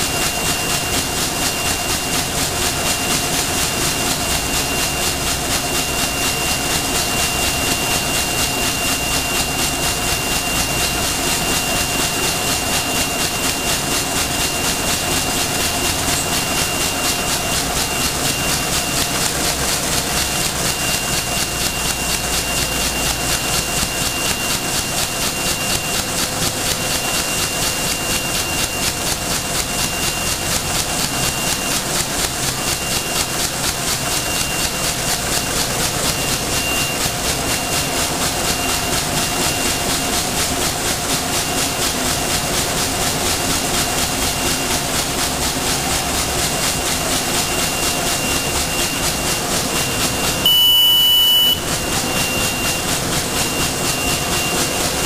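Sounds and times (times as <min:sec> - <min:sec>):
high machine whine: 0:00.0 - 0:55.0
machine noise pulsing rhythmically: 0:00.0 - 0:55.0.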